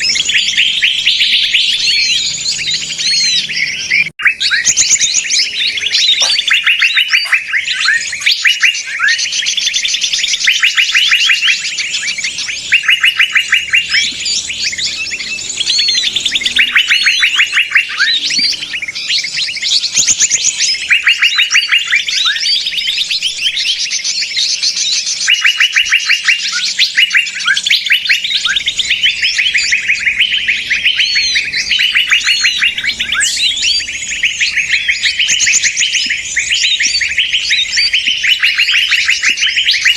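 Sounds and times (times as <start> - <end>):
small birds chattering trills: 0.0 - 39.9.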